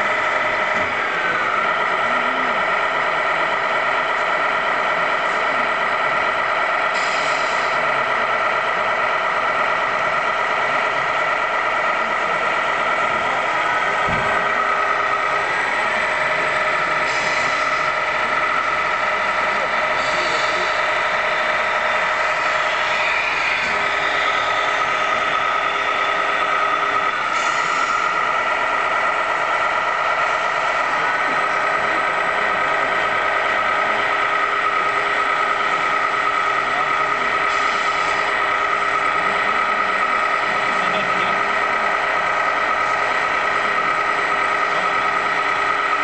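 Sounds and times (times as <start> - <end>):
model trucks running: 0.0 - 46.0.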